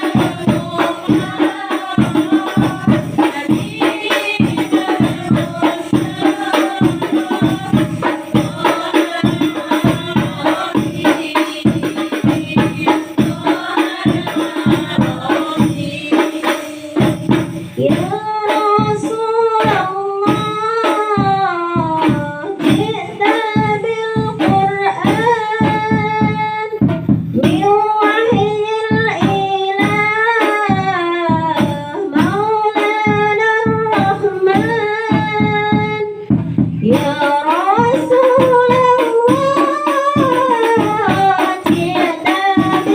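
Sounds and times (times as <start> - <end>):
devotional singing: 0.0 - 36.2, 36.8 - 42.9
frame drums beating: 0.0 - 42.9.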